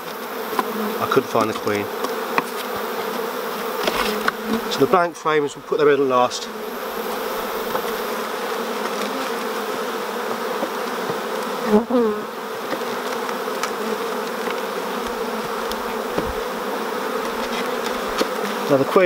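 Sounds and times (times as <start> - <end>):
bee buzzing close by: 0.0 - 19.0
bees buzzing: 0.0 - 19.0.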